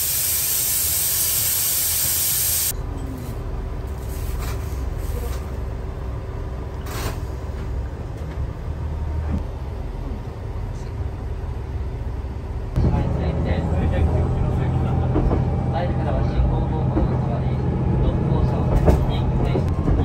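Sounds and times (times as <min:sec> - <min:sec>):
railcar low rumble: 0:00.0 - 0:20.0.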